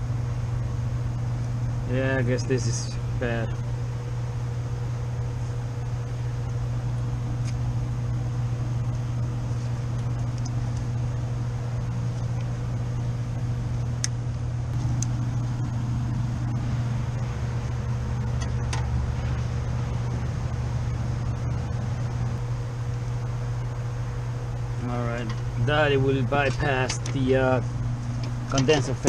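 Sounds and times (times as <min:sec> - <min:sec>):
hvac equipment humming: 0:00.0 - 0:29.0.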